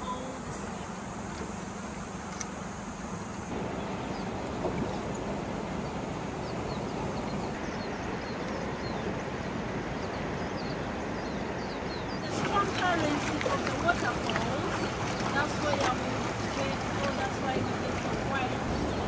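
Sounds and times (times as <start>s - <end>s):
boat motor running: 0.0s - 19.0s
rushing river water: 3.0s - 19.0s.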